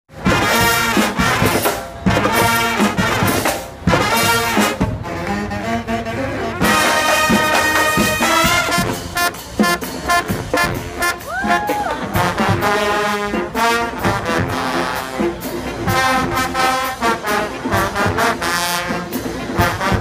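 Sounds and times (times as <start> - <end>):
brass band playing: 0.1 - 20.0.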